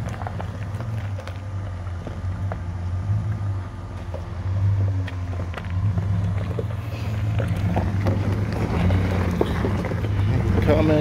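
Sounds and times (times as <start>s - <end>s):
stones crunching under tyres: 0.0s - 11.0s
truck engine hum: 0.0s - 11.0s.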